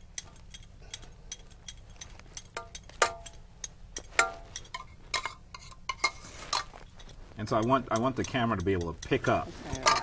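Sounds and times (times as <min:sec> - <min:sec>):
spoon clinking against a dish: 0:00.0 - 0:10.0.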